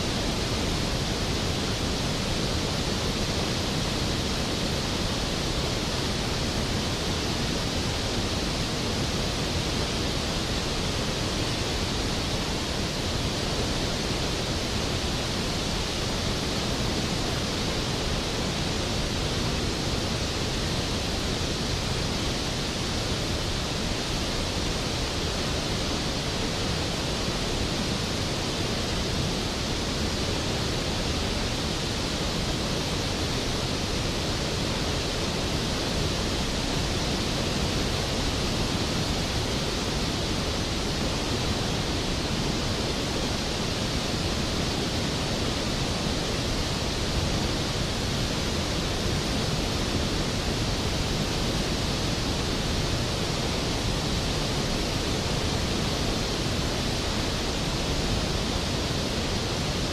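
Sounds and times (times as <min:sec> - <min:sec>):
waterfall rushing into pool: 0:00.0 - 0:59.9.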